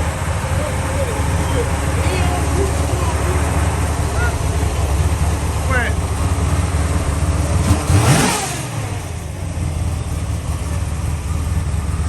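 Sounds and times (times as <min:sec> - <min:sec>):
car engine running: 0:00.0 - 0:12.0
engine revving: 0:00.0 - 0:12.0.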